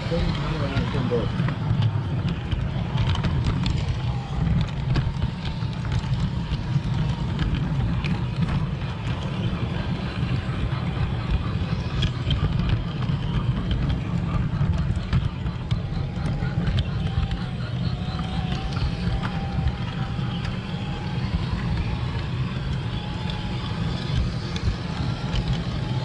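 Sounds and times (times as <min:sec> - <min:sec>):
toy train wheels and motor rumbling: 0:00.0 - 0:26.0.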